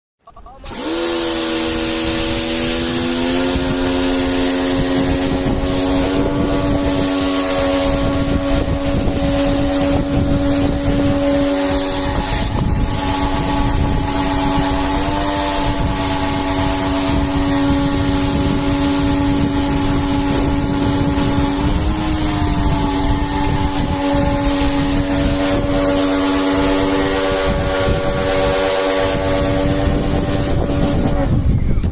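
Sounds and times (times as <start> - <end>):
motor running: 0.4 - 31.9
rushing wind-like noise: 0.8 - 31.9.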